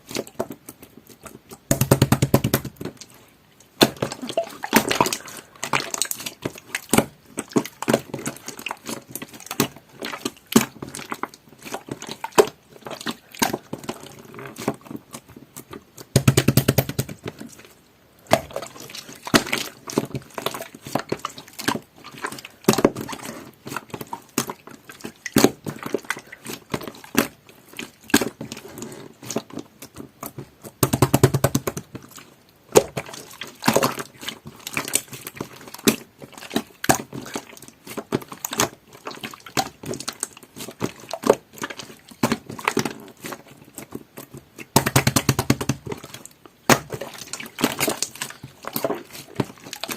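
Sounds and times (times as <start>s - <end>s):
slime squelch: 0.0s - 49.9s.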